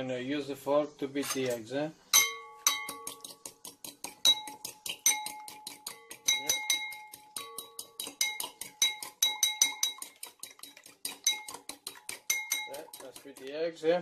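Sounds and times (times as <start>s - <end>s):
fork clinking against bowl: 1.2s - 13.5s.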